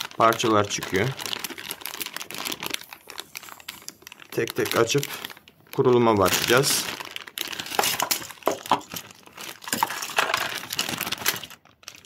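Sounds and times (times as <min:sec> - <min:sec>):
crinkling plastic packaging: 0:00.0 - 0:12.0.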